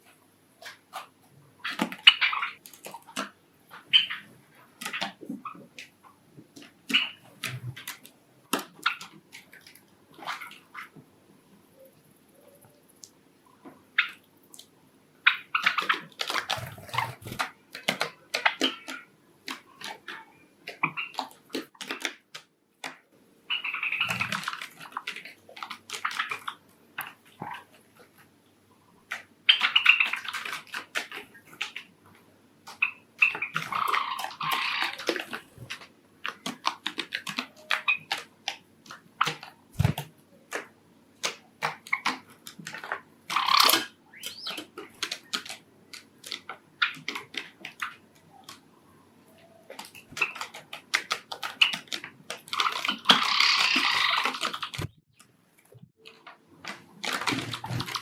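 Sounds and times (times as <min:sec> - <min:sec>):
birds rustling: 0:00.0 - 0:22.1, 0:23.5 - 0:40.6, 0:41.2 - 0:55.0, 0:56.5 - 0:58.0
birds tapping and clicking: 0:00.6 - 0:11.1, 0:11.7 - 0:28.3, 0:28.9 - 0:58.0.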